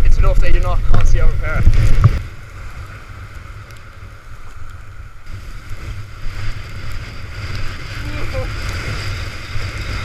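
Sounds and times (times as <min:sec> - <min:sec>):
wind buffeting microphone: 0:00.0 - 0:10.0
wind hiss: 0:00.0 - 0:10.0
waves breaking: 0:00.4 - 0:10.0.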